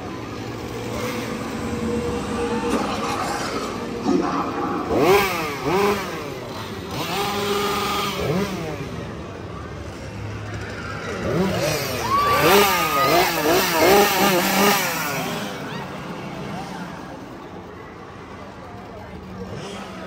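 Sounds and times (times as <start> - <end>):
chainsaw engines idling and revving: 0.0 - 20.0.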